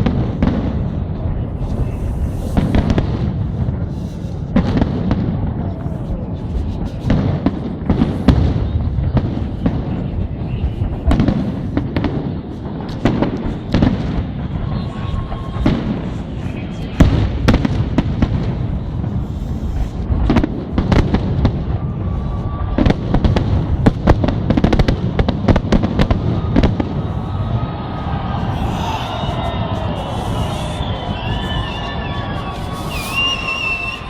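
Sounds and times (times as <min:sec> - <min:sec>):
fireworks rumble: 0:00.0 - 0:34.0
sharp fireworks bangs: 0:00.0 - 0:34.0.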